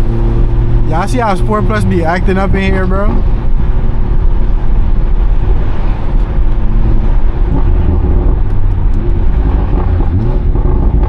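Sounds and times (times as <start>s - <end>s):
car engine under way: 0.0s - 11.0s.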